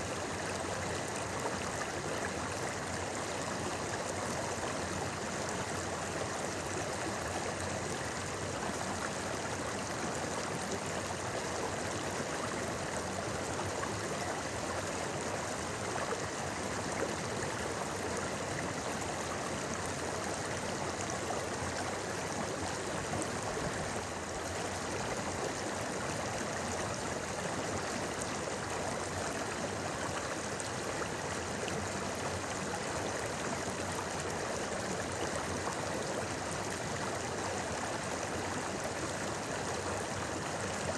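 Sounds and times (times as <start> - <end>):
river flowing over stones: 0.0 - 40.9.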